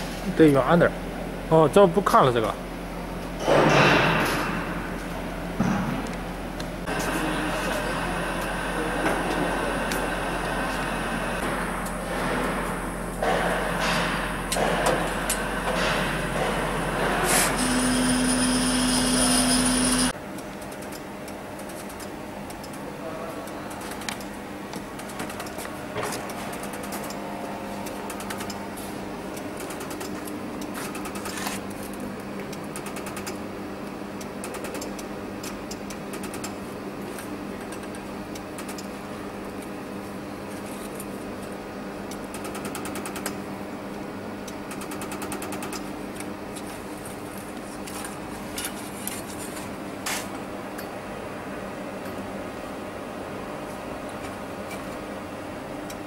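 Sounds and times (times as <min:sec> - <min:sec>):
cooling unit humming: 0:00.0 - 0:56.0.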